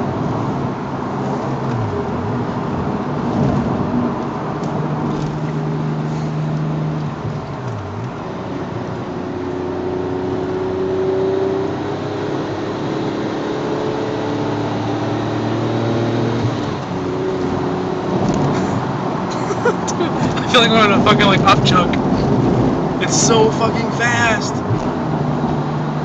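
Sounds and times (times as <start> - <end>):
car engine hum: 0.0 - 26.0
tyre and road noise: 0.0 - 26.0.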